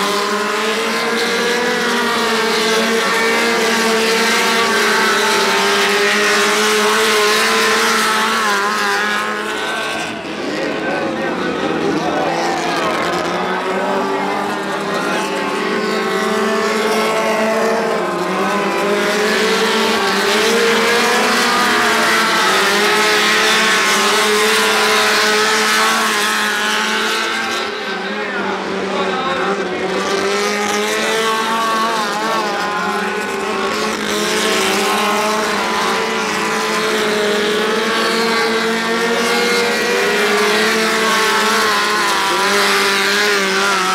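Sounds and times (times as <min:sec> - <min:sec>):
race car engines at high revs: 0:00.0 - 0:43.9.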